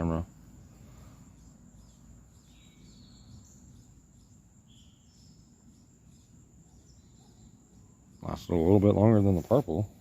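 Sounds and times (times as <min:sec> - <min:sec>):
bird chirps: 0:00.0 - 0:10.0
high insect drone: 0:00.0 - 0:10.0.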